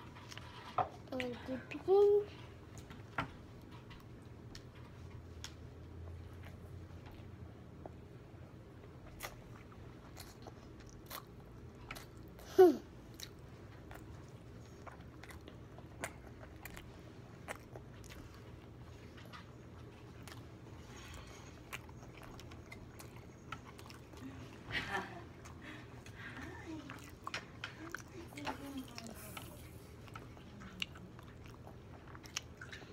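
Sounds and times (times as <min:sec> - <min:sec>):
child chewing: 0:00.0 - 0:32.9.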